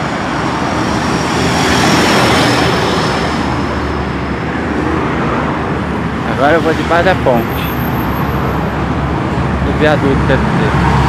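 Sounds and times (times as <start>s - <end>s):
passing vehicles rushing: 0.0s - 11.0s.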